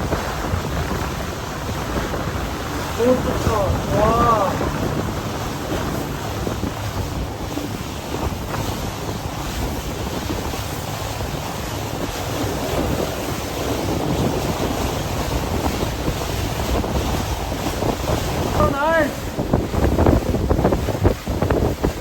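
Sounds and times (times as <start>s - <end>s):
boat engine: 0.0s - 22.0s
water beneath boat: 0.0s - 22.0s
wind buffeting microphone: 0.0s - 22.0s.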